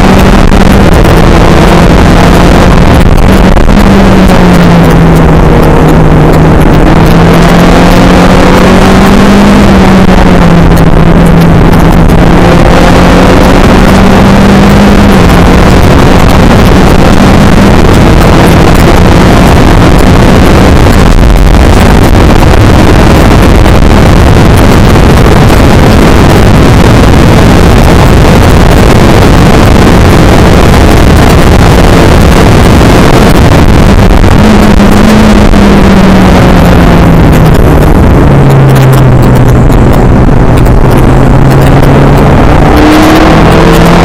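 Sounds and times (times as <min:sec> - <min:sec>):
race car engine running hard: 0:00.0 - 0:44.0
wind rushing: 0:00.0 - 0:44.0.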